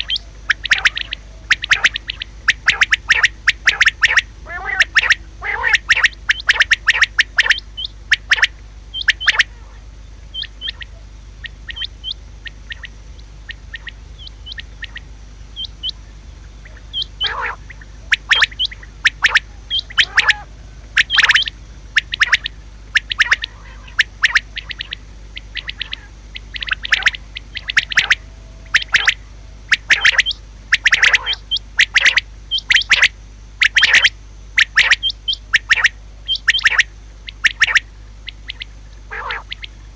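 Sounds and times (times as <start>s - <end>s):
quail chirping: 0.0s - 39.9s.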